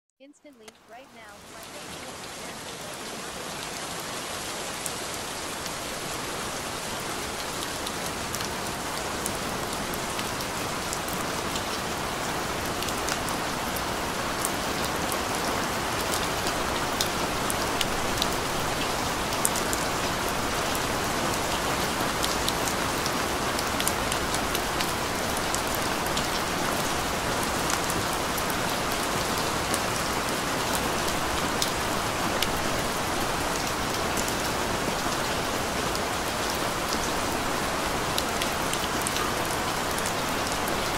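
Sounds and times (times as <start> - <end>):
steady rain falling: 0.4 - 40.9.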